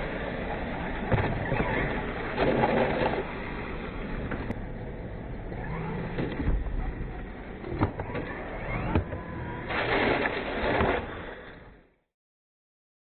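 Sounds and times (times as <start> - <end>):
toy truck electric motors whining: 0.0 - 11.9.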